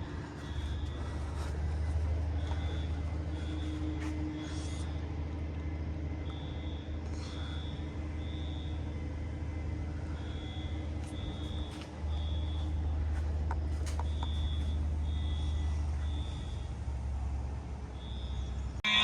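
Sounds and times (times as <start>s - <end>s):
distant fire alarm beeping: 0.0s - 4.7s, 6.1s - 16.9s, 18.0s - 19.0s
steady low rumble: 0.0s - 19.0s.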